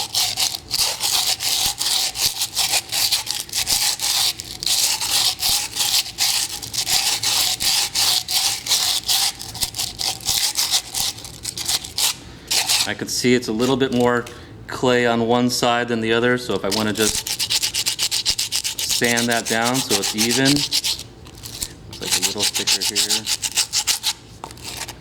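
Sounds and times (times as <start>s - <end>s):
sandpaper rubbing on clay: 0.0s - 13.0s, 13.6s - 14.1s, 16.6s - 25.0s.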